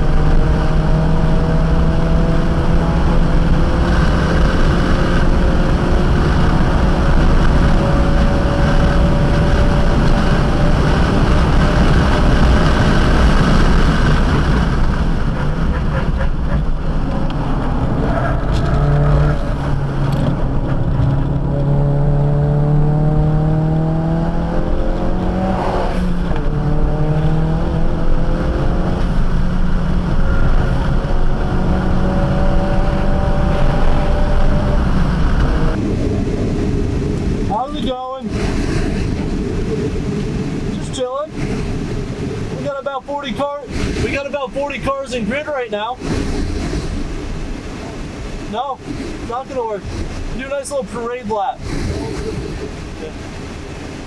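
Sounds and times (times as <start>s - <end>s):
car engine revving: 0.0s - 54.0s
road and tyre noise: 0.0s - 54.0s.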